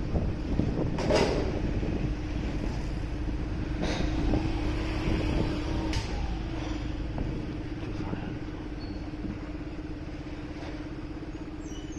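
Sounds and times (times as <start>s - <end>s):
road and wind noise: 0.0s - 11.9s.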